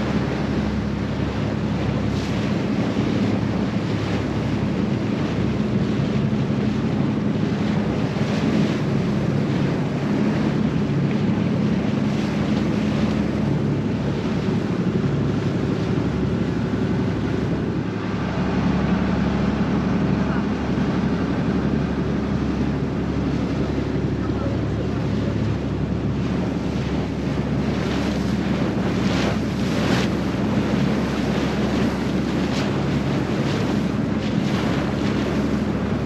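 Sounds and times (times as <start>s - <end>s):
boat engine running: 0.0s - 36.0s
water rushing past hull: 0.0s - 36.0s
wind buffeting microphone: 0.0s - 36.0s.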